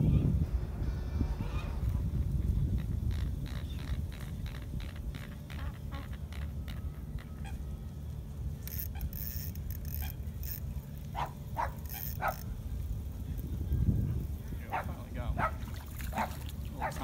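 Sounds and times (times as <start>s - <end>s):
wind buffeting microphone: 0.0s - 7.4s, 9.0s - 17.0s.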